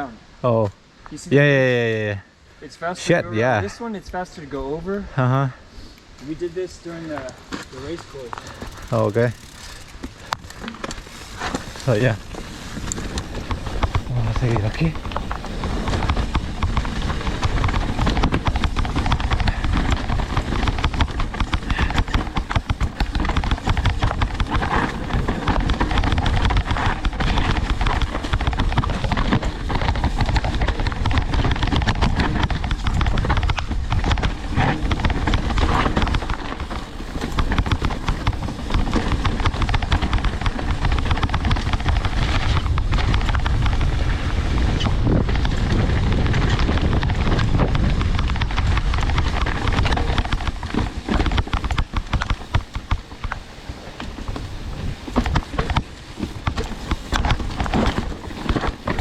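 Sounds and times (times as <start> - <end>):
bike tyres rumbling over dirt: 6.2 - 59.0
bike rattling knocks: 7.5 - 59.0
wind buffeting microphone: 7.7 - 59.0.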